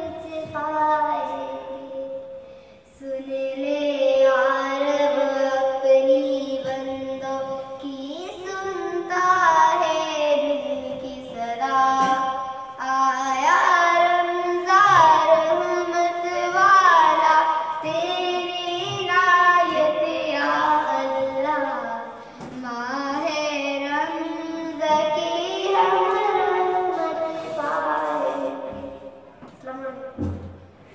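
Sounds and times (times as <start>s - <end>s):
girl singing into a microphone: 0.0s - 30.5s.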